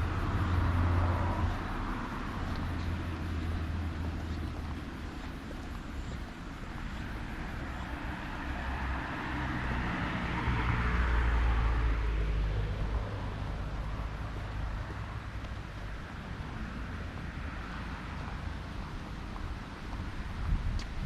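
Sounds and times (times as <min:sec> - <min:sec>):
vehicle tyre noise passing: 0:00.0 - 0:21.0.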